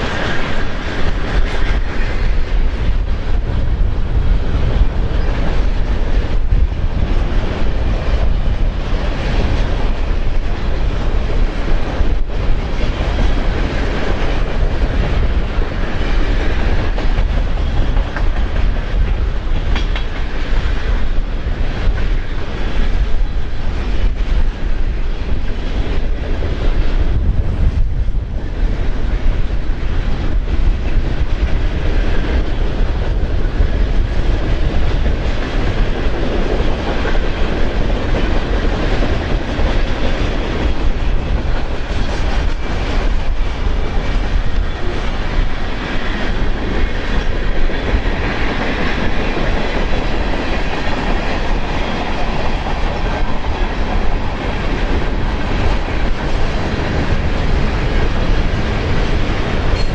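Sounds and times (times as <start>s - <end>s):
train wheels clattering on rails: 0.0s - 59.9s
wind on microphone: 0.0s - 59.9s.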